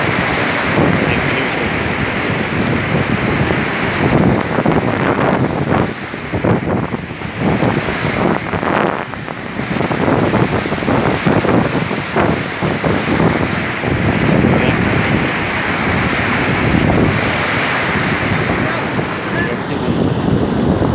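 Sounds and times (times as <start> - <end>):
rushing water: 0.0 - 20.9
wind buffeting microphone: 0.0 - 20.9.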